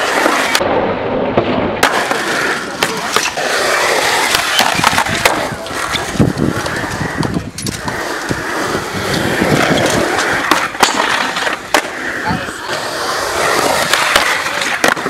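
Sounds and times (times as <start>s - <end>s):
skateboard clacking on ground: 0.0s - 0.7s, 1.3s - 15.0s
skateboard wheels rolling on concrete: 0.0s - 15.0s.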